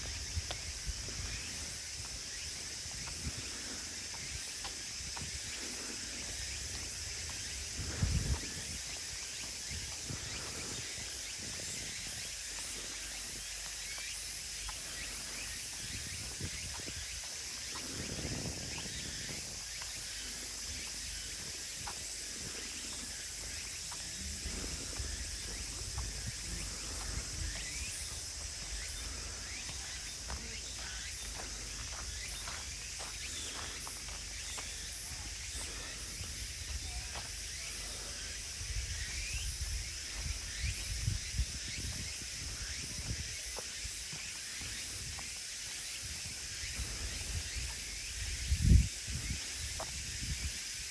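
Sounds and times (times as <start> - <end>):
footsteps on a path: 0.0 - 50.9
insects chirring: 0.0 - 50.9.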